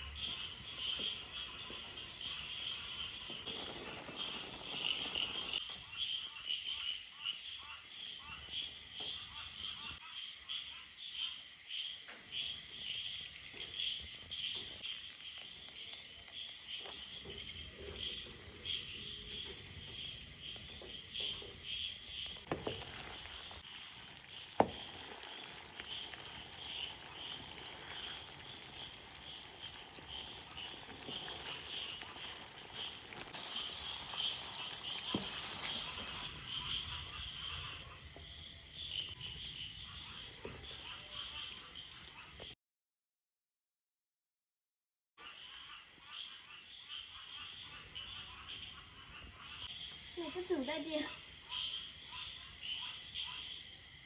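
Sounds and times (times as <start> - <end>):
insects chirping: 0.0 - 42.6, 45.2 - 54.0.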